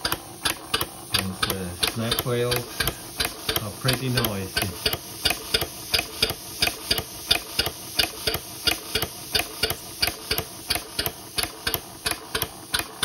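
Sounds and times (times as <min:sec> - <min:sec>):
model engine valves clicking: 0:00.0 - 0:13.0.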